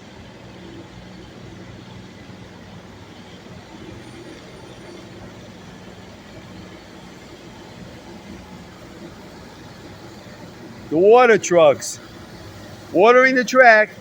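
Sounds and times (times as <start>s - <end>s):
diesel engine hum: 0.0s - 14.0s.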